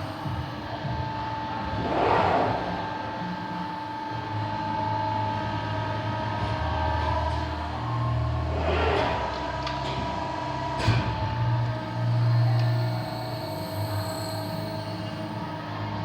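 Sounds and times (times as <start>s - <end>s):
deep machine drone: 0.0s - 16.0s.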